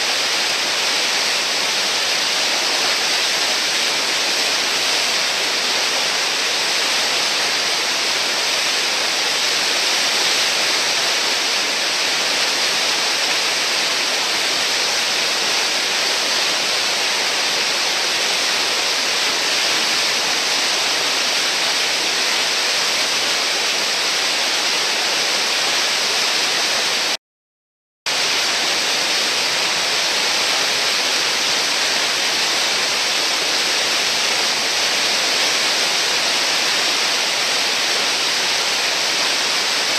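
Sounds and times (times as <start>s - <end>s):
whitewater rushing: 0.0s - 27.2s, 28.1s - 39.9s.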